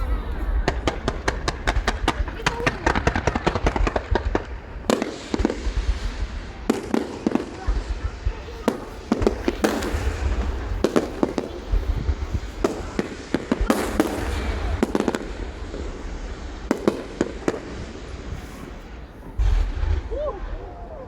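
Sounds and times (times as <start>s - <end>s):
fireworks bangs and crackles: 0.0s - 21.0s
rumble of distant bursts: 0.0s - 21.0s.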